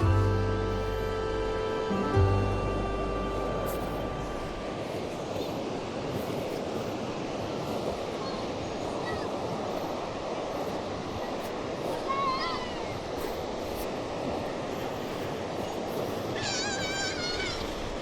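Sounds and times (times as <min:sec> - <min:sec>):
ocean waves on sandy beach: 0:00.0 - 0:18.0.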